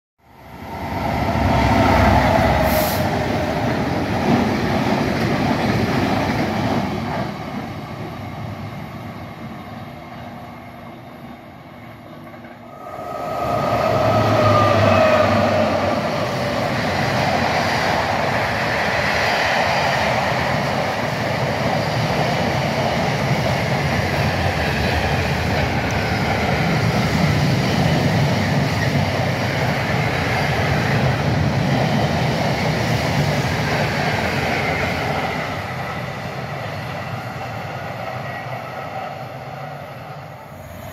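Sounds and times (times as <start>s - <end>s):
freight train wagons rumbling past: 0.2s - 40.9s
train rushing past with falling whine: 0.2s - 40.9s.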